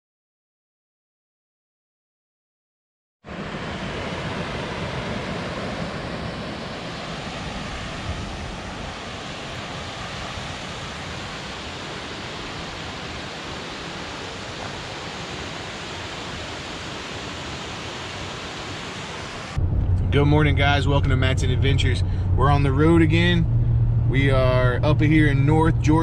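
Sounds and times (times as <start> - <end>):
wind rumble on microphone: 3.3 - 17.5, 19.4 - 26.0
distant waterfall rushing: 3.3 - 26.0.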